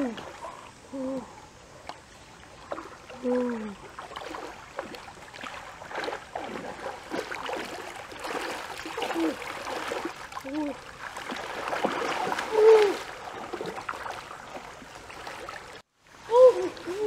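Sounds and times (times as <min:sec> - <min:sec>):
water splashing in a stream: 0:00.0 - 0:17.0.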